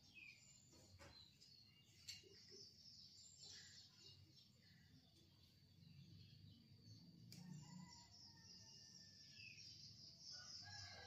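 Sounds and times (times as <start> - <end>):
faint high bird chirps: 0.0 - 11.0.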